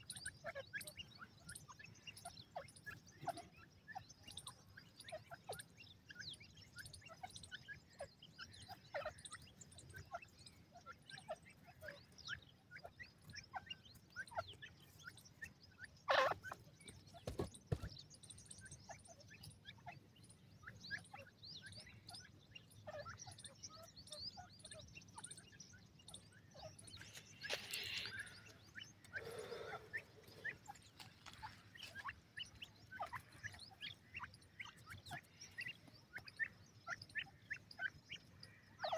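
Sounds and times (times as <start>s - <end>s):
chicks chirping: 0.0s - 38.9s.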